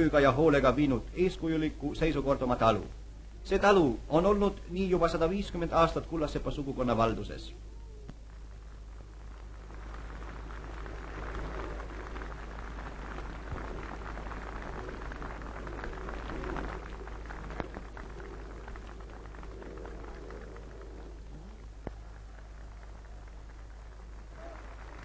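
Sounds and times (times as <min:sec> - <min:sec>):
crackling film surface noise: 0:00.0 - 0:25.0
steady low hum: 0:00.0 - 0:25.0.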